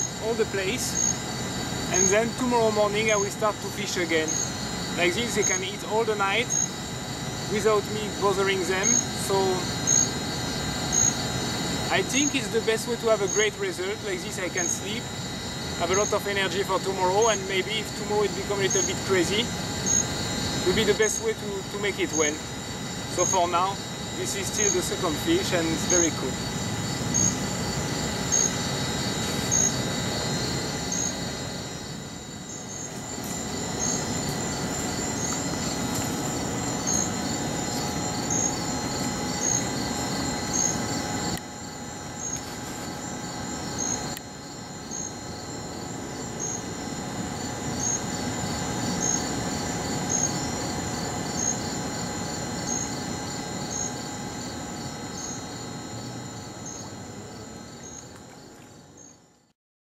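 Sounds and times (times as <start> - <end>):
crickets trilling and chirping: 0.0 - 59.5.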